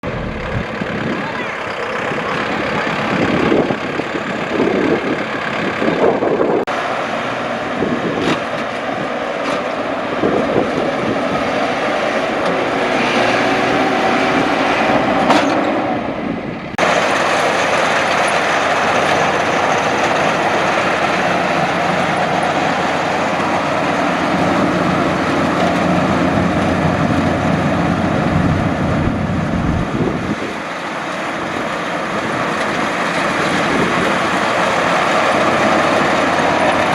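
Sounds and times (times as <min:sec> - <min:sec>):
combine harvester running: 0:00.0 - 0:36.9.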